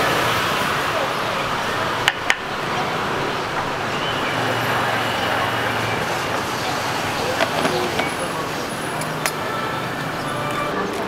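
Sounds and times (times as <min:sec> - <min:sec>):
background voices: 0:00.0 - 0:11.0
traffic noise: 0:00.0 - 0:11.0.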